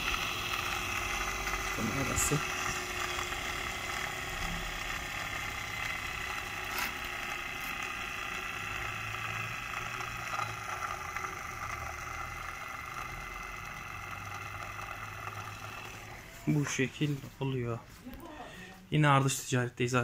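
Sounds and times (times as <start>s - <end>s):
grinder motor whining: 0.0s - 17.4s.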